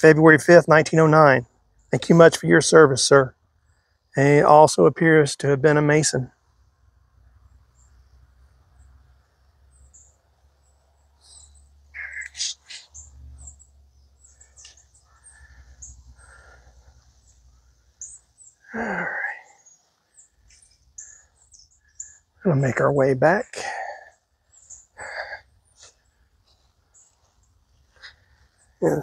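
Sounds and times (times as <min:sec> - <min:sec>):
small songbirds chirping: 0:00.4 - 0:29.0.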